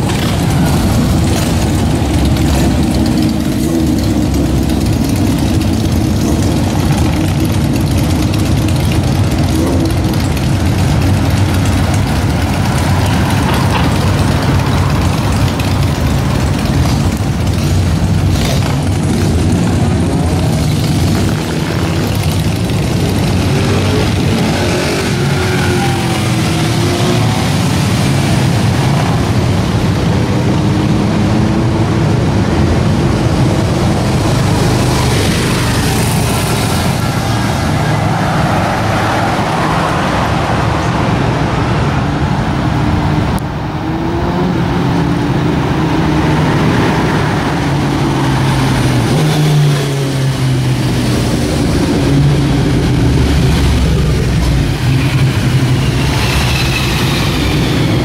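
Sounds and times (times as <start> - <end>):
engines revving: 0.0 - 58.0
motorcycles and cars driving past: 0.0 - 58.0.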